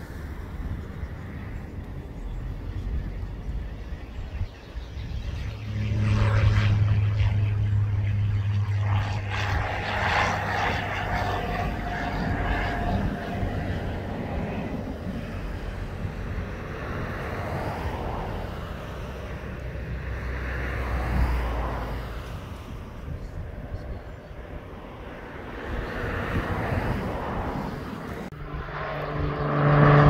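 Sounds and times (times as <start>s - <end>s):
light aircraft engine and propeller: 0.0s - 30.0s.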